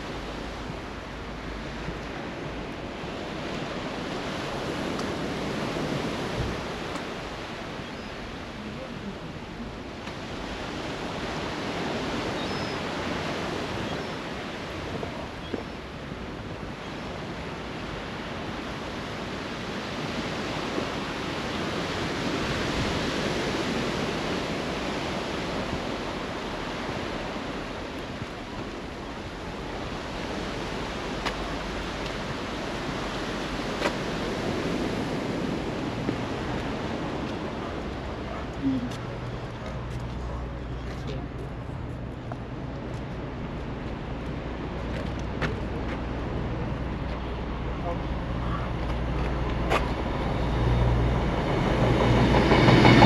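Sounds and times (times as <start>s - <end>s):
sea waves washing onto beach: 0.0s - 53.0s.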